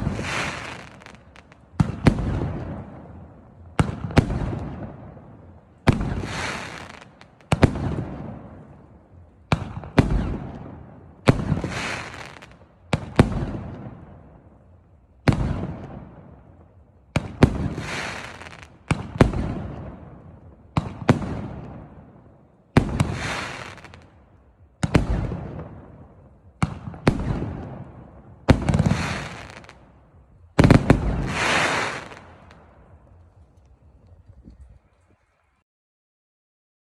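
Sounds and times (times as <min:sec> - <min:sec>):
fireworks cake bangs and crackles: 0:00.0 - 0:08.9, 0:09.5 - 0:35.2.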